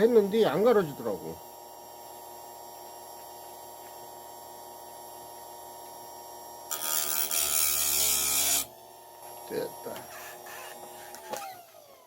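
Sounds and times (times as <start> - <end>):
electric grinder humming: 0.0 - 12.0.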